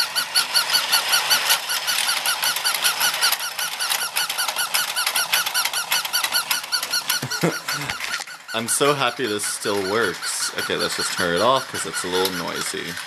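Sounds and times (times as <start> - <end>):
toy squeaky beeping notes: 0.0 - 13.0.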